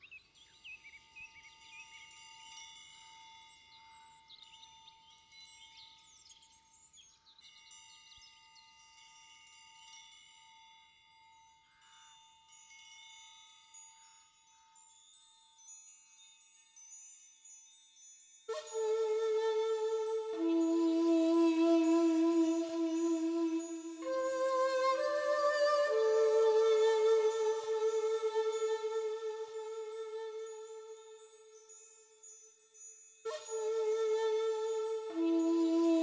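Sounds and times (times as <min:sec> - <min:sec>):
shimmering chimes: 0:00.0 - 0:36.0.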